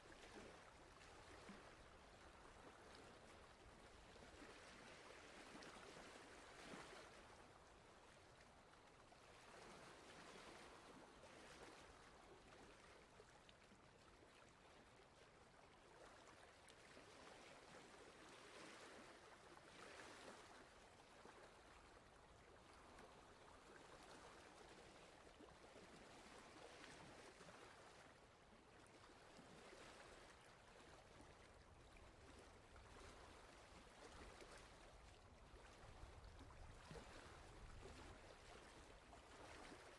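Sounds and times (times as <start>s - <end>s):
faint rushing water: 0.0s - 39.9s.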